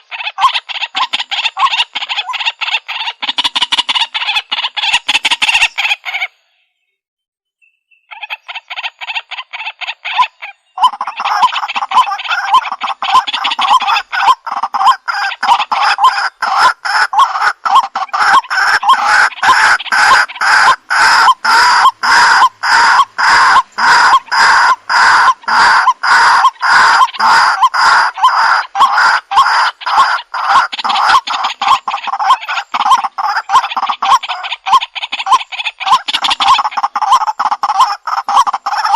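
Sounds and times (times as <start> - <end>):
waterhen calling harshly: 0.0 - 6.4, 8.1 - 38.9.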